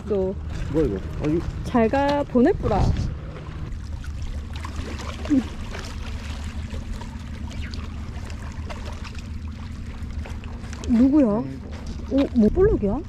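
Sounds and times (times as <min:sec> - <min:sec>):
low motor hum: 0:00.0 - 0:13.0
water lapping against rocks: 0:00.0 - 0:13.0.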